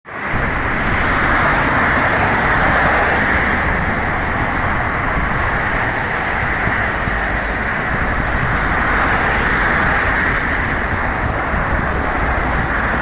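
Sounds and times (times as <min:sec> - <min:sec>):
car road noise: 0:00.0 - 0:13.0.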